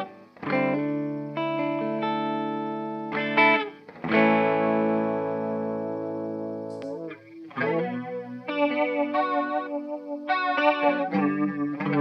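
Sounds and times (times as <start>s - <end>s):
overdriven electric guitar chords: 0.0s - 12.0s.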